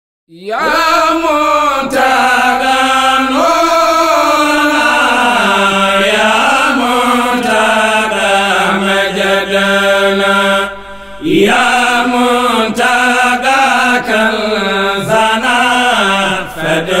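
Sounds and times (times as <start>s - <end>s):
man chanting a song: 0.3s - 17.0s.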